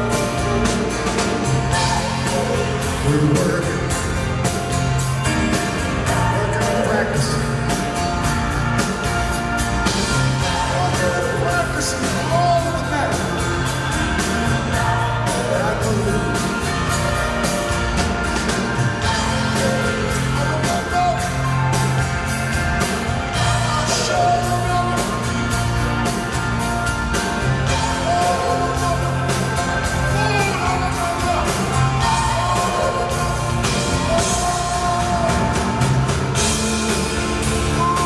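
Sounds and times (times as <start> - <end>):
man singing: 0.0 - 8.3, 10.1 - 17.6, 18.9 - 26.2, 27.4 - 38.0
bass: 0.0 - 38.0
drum kit with cymbals: 0.0 - 38.0.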